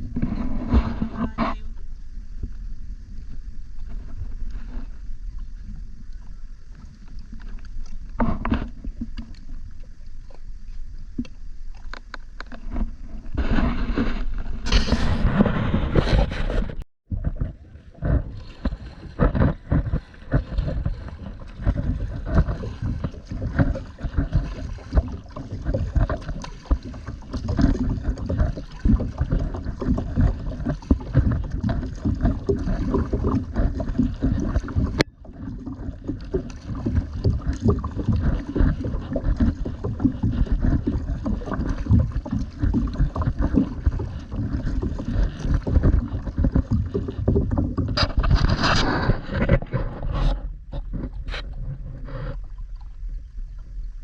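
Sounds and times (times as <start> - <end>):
water splashing and sloshing: 0.0 - 54.0
wind rumble on microphone: 0.0 - 54.0.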